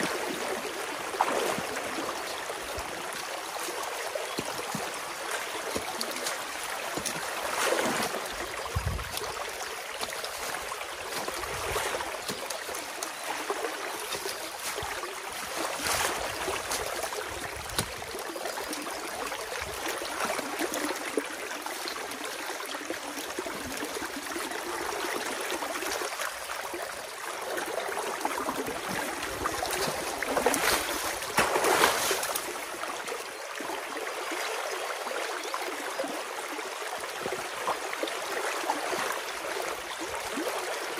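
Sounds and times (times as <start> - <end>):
water rushing and gurgling: 0.0 - 40.9.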